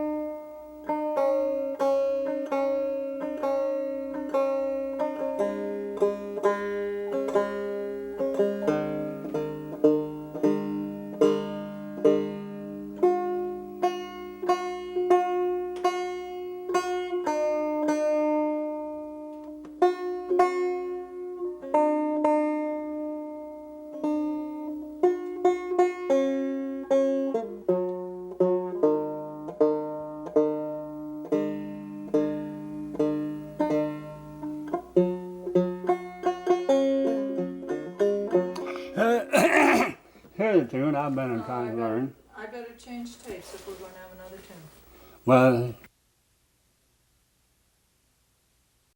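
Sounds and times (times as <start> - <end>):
banjo playing a tune: 0.0 - 39.2, 40.4 - 44.2.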